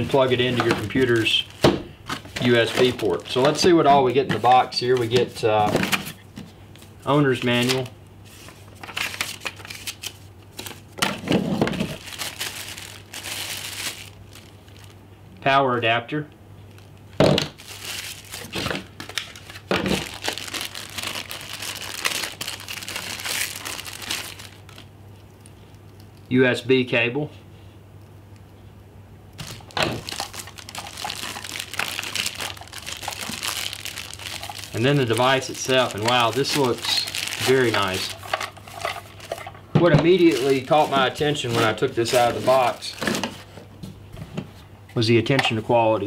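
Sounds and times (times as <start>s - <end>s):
packaging crinkling rustles: 0.0s - 15.0s, 16.7s - 26.3s, 29.4s - 43.7s.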